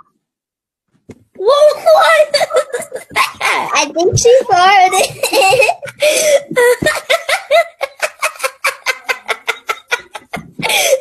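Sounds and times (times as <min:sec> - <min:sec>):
boy laughing: 0:01.5 - 0:11.0.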